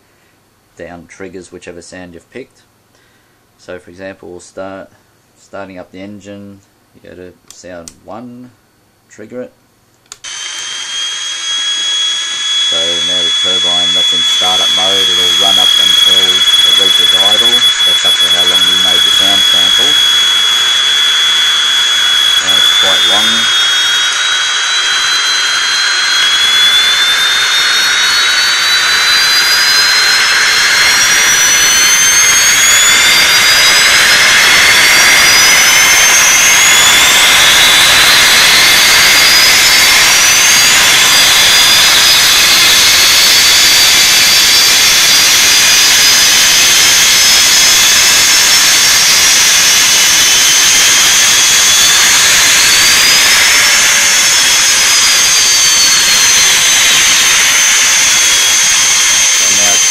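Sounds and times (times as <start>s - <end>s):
jet turbines spooling up: 10.1s - 59.9s
loud steady rush: 10.3s - 59.9s.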